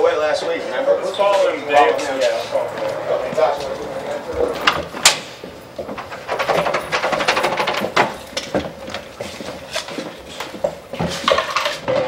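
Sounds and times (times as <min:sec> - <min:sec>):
objects clattering and knocking: 0:01.9 - 0:12.0.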